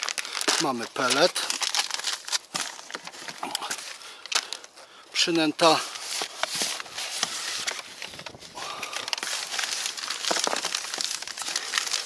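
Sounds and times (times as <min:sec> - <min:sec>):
plastic and cardboard rustling: 0:00.0 - 0:12.0.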